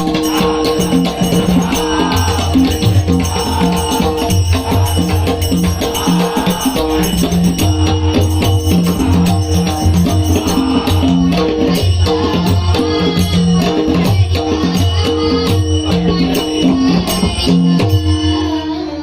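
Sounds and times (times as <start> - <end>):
jingling percussion: 0.0 - 19.0.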